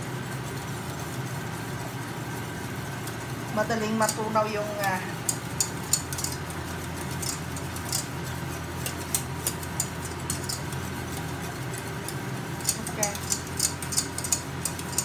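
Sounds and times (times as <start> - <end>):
steady low hum: 0.0 - 15.0
whisk scraping saucepan: 0.0 - 15.0.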